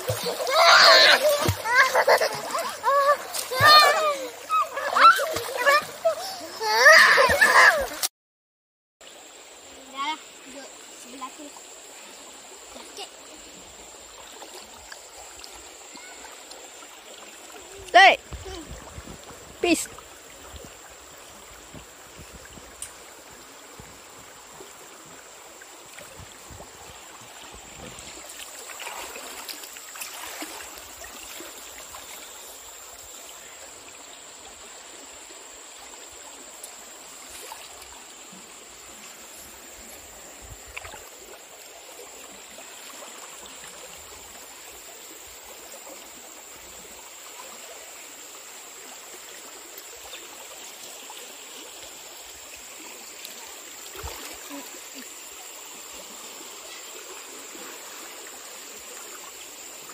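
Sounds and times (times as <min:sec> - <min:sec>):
river water flowing: 0:00.0 - 0:08.1, 0:09.0 - 0:59.9.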